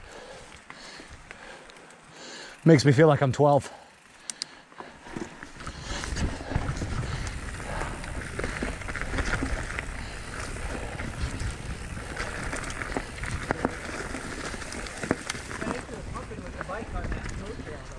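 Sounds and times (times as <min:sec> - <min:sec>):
bike rattles and clicks: 0:00.0 - 0:17.9
bike tyres on dirt and leaves: 0:00.0 - 0:17.9.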